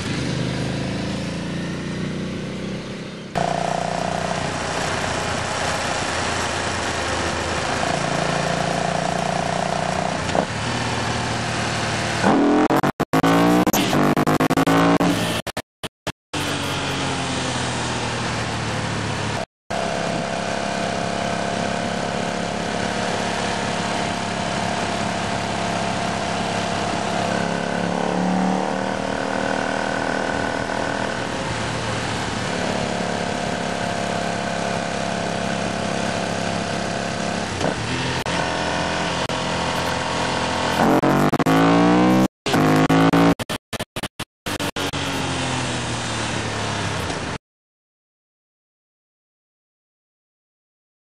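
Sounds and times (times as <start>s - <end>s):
motorcycle engine running: 0.0s - 15.6s, 16.4s - 47.4s.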